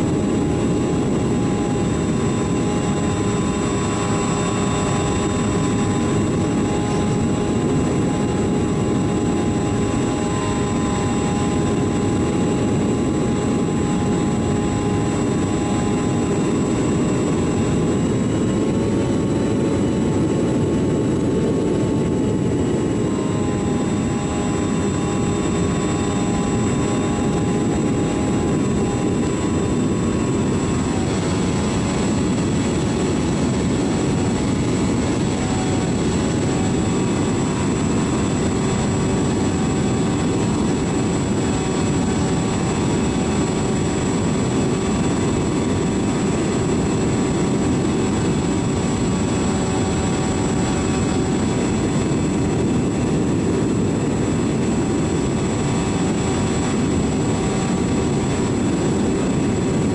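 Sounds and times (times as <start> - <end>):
model airplane motor whine: 0.0 - 59.9
wind rushing over camera: 0.0 - 59.9.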